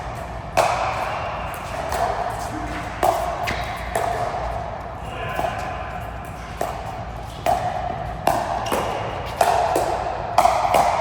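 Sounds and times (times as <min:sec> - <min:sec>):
racket striking ball: 0:00.1 - 0:04.6, 0:05.3 - 0:11.0.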